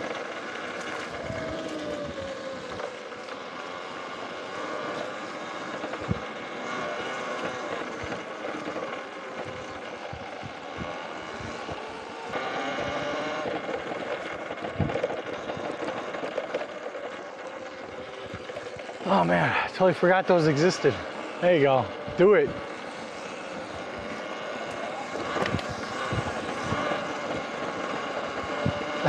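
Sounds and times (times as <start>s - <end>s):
electric bike motor whining: 0.0s - 29.0s.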